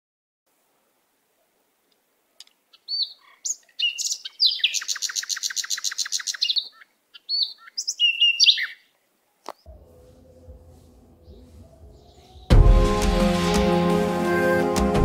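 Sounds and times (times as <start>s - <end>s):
songbird singing: 1.3s - 14.8s.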